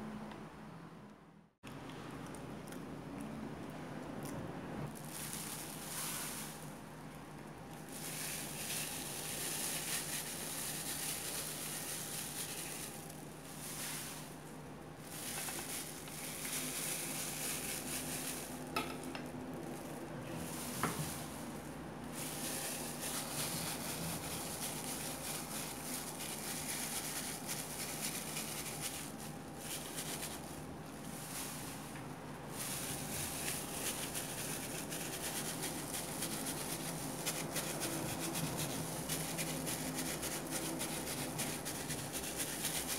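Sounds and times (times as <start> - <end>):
gloved hand rustling food: 4.9 - 6.9, 7.7 - 42.9.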